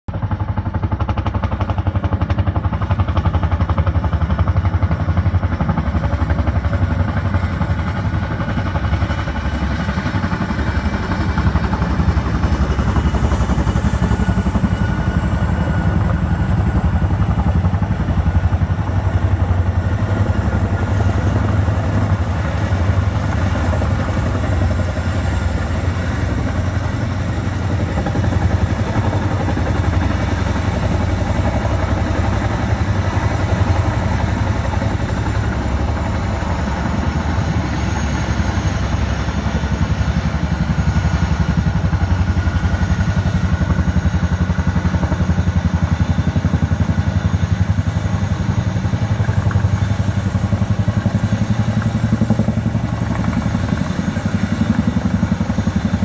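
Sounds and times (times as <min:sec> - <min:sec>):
helicopter rotor blades beating: 0:00.1 - 0:56.0.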